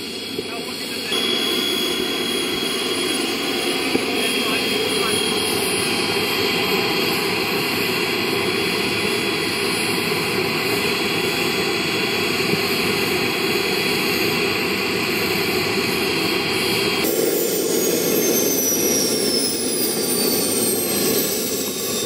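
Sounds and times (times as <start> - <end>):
model jet turbines running: 0.0 - 22.0.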